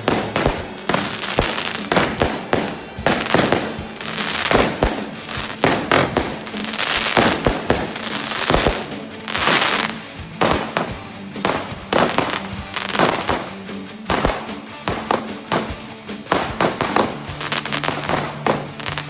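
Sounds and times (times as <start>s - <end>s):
fireworks bangs: 0.0s - 19.0s
fireworks crackle: 0.0s - 19.0s
music: 0.0s - 19.0s.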